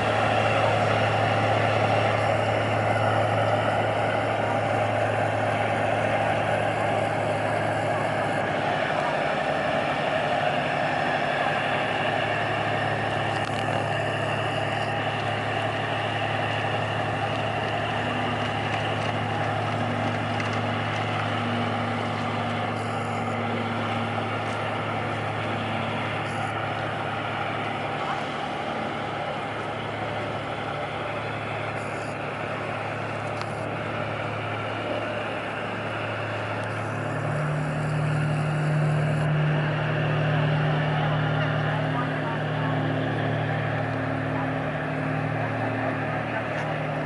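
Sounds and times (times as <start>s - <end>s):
boat diesel engine running: 0.0s - 47.0s.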